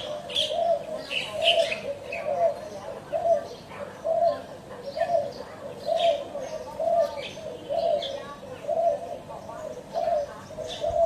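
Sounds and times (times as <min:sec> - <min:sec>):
birds chirping: 0:00.0 - 0:11.0
doves cooing: 0:00.0 - 0:11.0.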